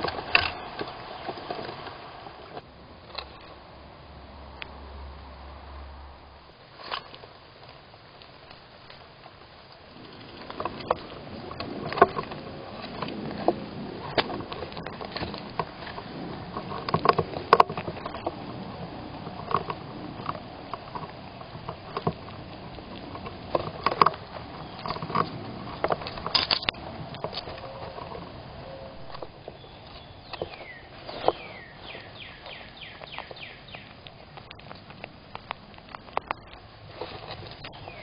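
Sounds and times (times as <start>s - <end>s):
squirrels rustling and scratching: 6.6s - 38.0s.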